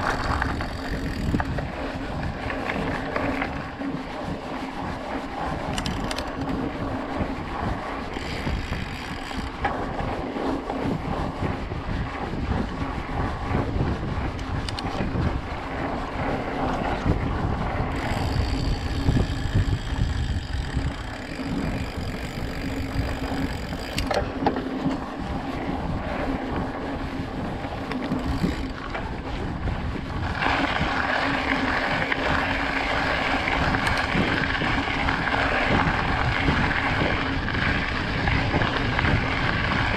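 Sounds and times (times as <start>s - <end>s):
bike tyres rolling on gravel: 0.0s - 39.9s
wind on microphone: 0.0s - 39.9s.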